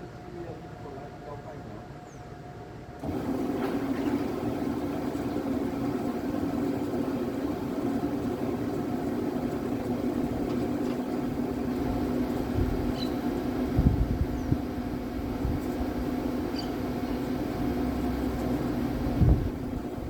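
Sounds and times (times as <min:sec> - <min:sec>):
electric boat motor humming: 0:03.0 - 0:20.0.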